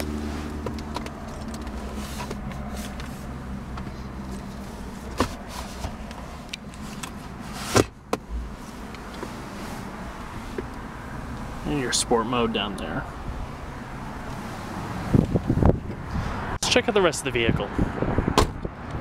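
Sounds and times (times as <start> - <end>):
car cabin hum: 0.0 - 16.1.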